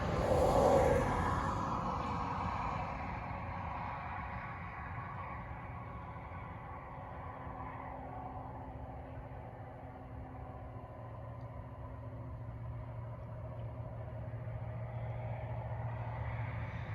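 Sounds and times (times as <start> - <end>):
vehicle engine hum: 0.0 - 16.9.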